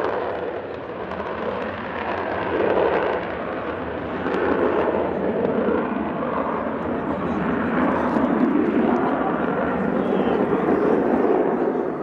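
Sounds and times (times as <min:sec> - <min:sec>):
crackling jet engine roar: 0:00.0 - 0:12.0.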